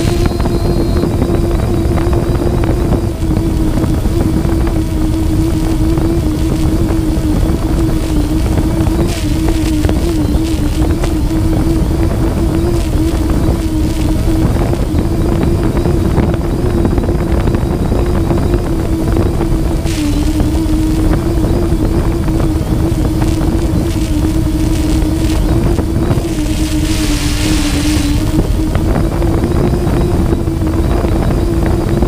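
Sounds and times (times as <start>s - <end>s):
drone motors and propellers humming: 0.0s - 32.0s
wind rumble on microphone: 0.0s - 32.0s.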